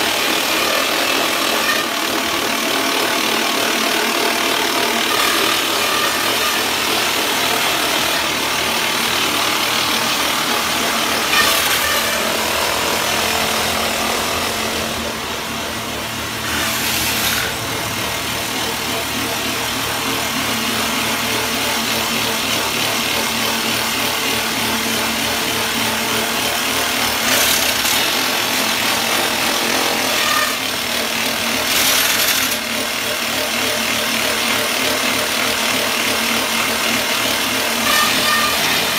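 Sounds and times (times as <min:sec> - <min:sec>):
rock drilling rig running: 0:00.0 - 0:38.9.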